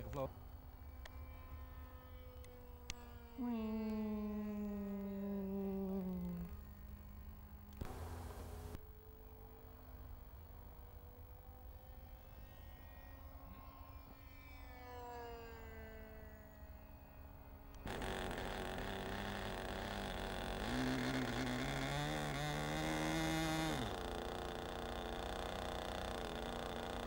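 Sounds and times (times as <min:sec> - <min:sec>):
model airplane engine buzzing: 0:00.8 - 0:08.8, 0:12.3 - 0:27.0.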